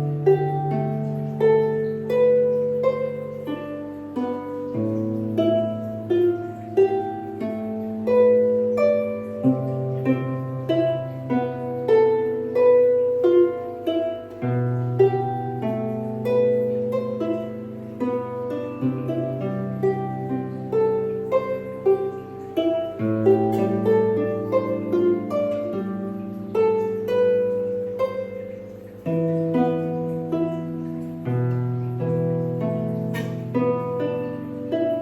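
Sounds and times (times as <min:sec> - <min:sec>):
solo harp melody: 0:00.0 - 0:35.0.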